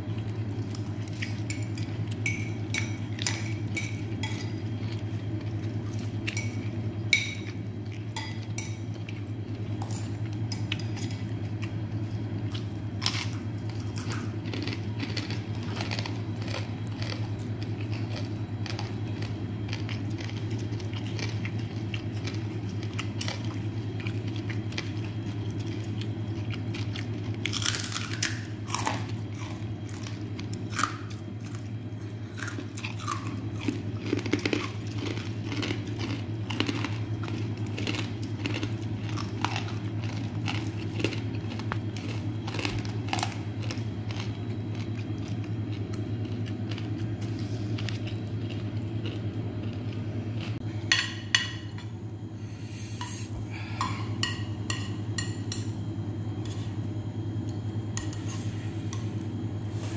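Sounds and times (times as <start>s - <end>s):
chewing and crunching: 0.0s - 52.0s
steady low hum: 0.0s - 59.9s.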